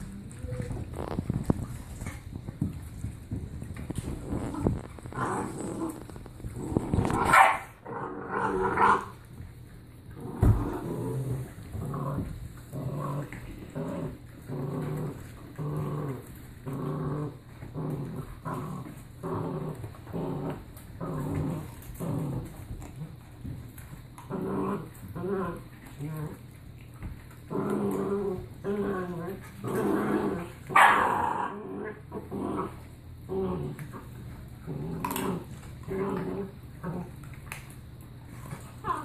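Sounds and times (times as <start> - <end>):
puppies growling: 0.0 - 39.0.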